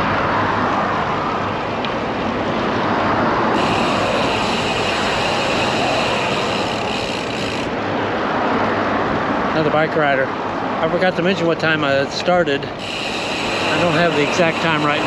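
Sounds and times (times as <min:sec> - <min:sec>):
highway traffic noise: 0:00.0 - 0:15.0.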